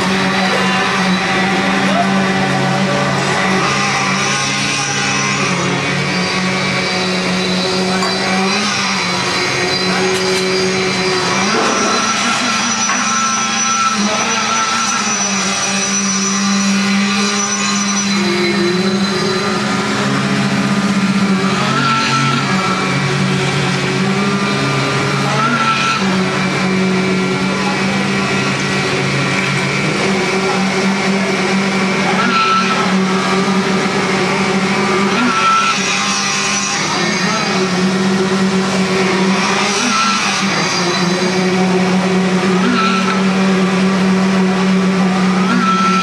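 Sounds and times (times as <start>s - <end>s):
heavy engines running: 0.0s - 15.8s, 18.1s - 35.6s, 36.4s - 46.0s.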